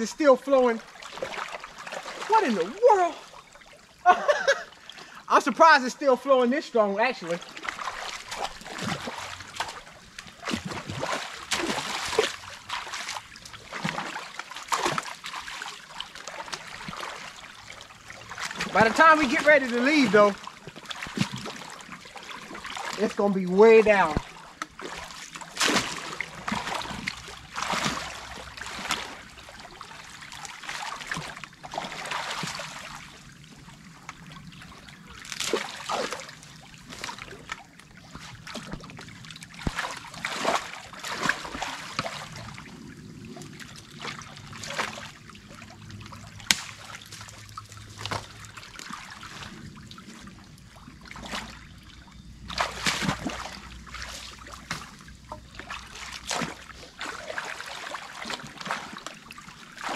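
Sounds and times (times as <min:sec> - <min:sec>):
creek water trickling: 0:00.0 - 0:59.9
water splashing: 0:00.0 - 0:59.9.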